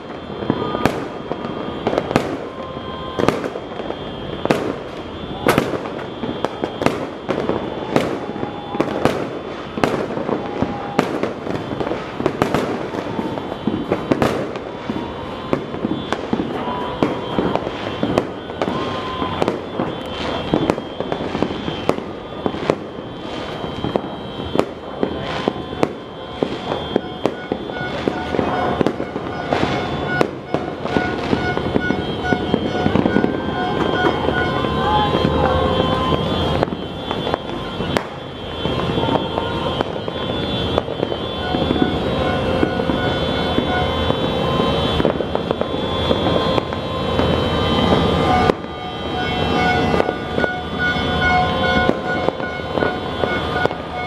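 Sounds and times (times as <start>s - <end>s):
firework bangs: 0.0s - 54.0s
fireworks crackling: 0.0s - 54.0s.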